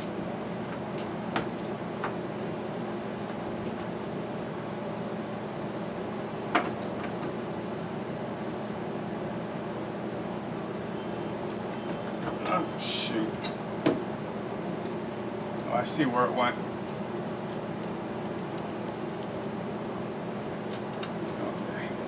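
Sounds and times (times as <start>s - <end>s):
fan-like mechanical hum: 0.0s - 22.0s.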